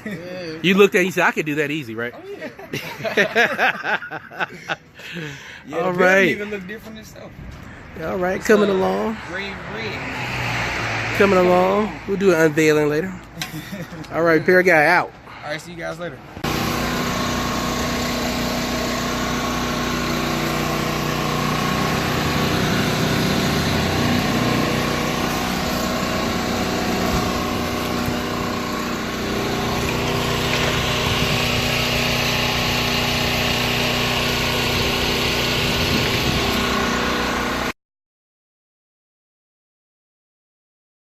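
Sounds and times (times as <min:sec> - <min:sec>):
engine running: 0:04.5 - 0:37.7.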